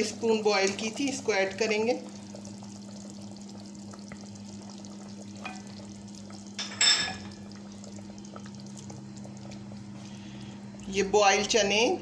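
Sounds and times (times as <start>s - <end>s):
curry simmering with crackle: 0.0s - 12.0s
steady low hum: 0.0s - 12.0s.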